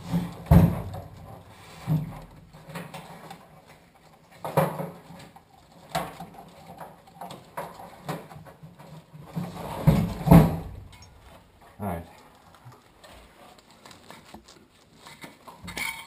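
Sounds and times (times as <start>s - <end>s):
knocks and clunks of parts handled: 0.0s - 16.0s.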